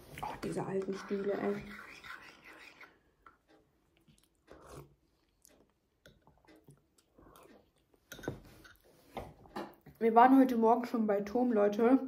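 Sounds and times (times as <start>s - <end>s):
quiet chewing: 0.0s - 10.0s.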